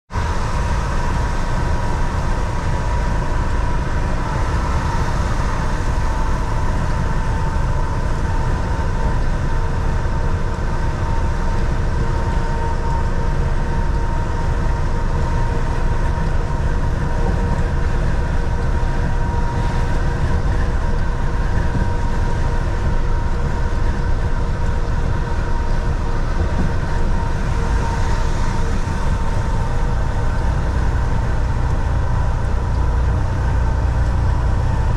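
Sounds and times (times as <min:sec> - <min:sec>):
faint steady whine: 0:00.1 - 0:34.9
road rumble: 0:00.1 - 0:34.9
truck engine drone: 0:00.1 - 0:34.9.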